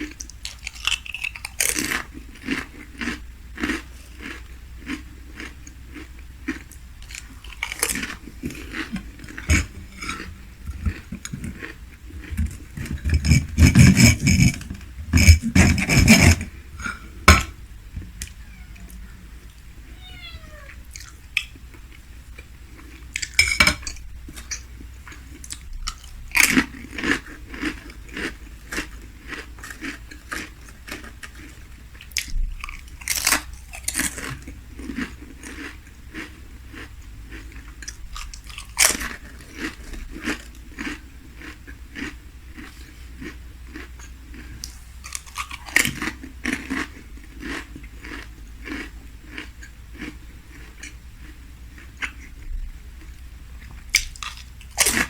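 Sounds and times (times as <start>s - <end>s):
chewing and biting food: 0.0s - 18.3s, 20.9s - 55.0s.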